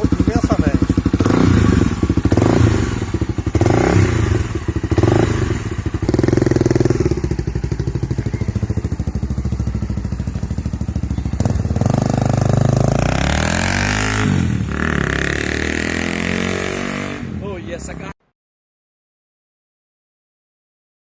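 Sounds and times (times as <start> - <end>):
motorcycle engine revving and idling: 0.0 - 18.1.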